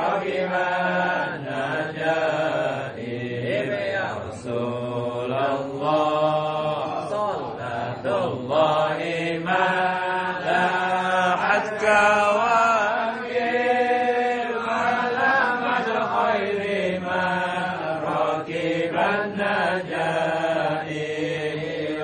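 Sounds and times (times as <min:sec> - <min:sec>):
men chanting: 0:00.0 - 0:22.0.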